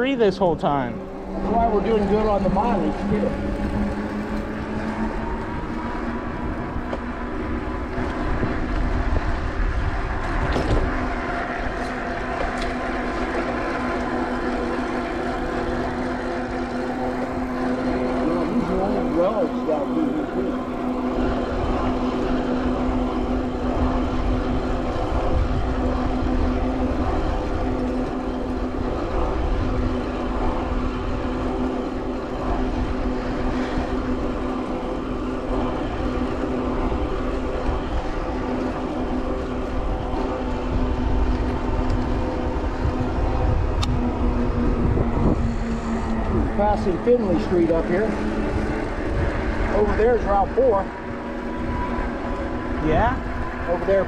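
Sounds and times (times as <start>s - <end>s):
electric bike motor hum: 0.0s - 54.0s
wind rumble on microphone: 0.2s - 54.0s.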